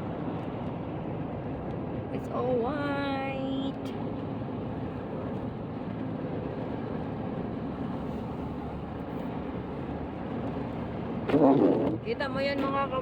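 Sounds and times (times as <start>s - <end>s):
car road noise: 0.0s - 13.0s.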